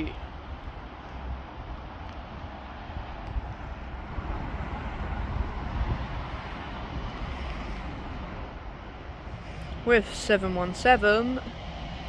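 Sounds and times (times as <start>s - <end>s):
train passing with rushing rumble: 0.0s - 12.0s.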